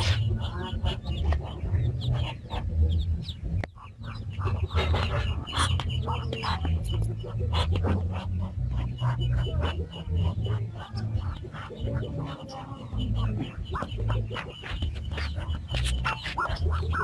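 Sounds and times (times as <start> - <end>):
duck squawking: 0.0 - 17.0.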